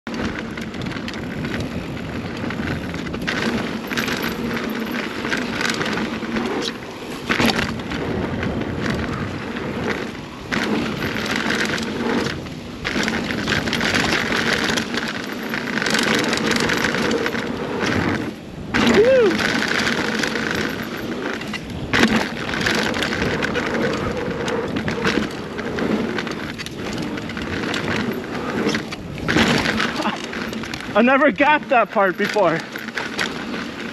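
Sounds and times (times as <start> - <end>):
bike rattling over bumps: 0.0 - 33.9
bike tyre noise on dirt: 0.1 - 33.9
wind noise: 0.1 - 33.9.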